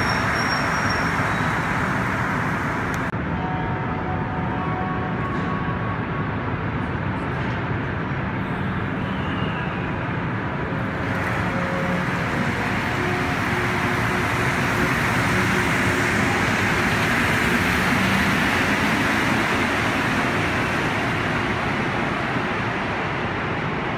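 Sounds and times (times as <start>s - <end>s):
train running past: 0.0s - 23.9s.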